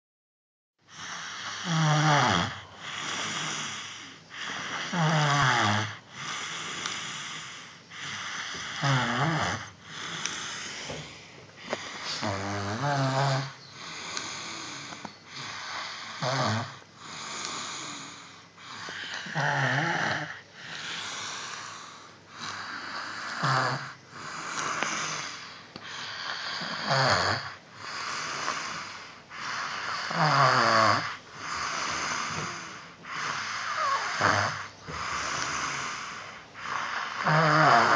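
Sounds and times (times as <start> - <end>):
person snoring: 0.9 - 37.9.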